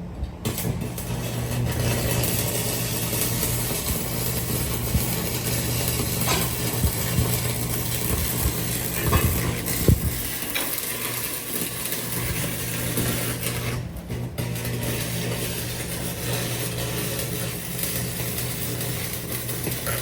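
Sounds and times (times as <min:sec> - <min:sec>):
steady hum and hiss: 0:00.0 - 0:20.0.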